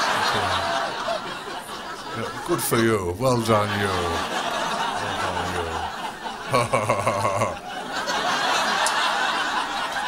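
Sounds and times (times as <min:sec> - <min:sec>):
audience laughing: 0:00.0 - 0:10.0.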